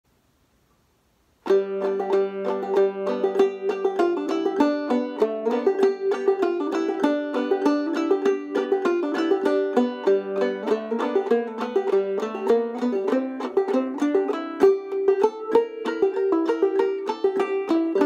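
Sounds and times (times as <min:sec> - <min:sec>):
banjo plucked and strummed: 0:01.4 - 0:18.0.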